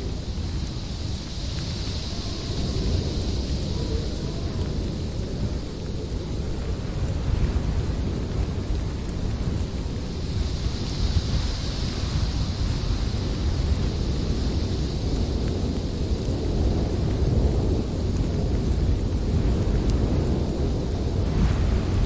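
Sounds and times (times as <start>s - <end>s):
strong blizzard wind: 0.0s - 22.0s.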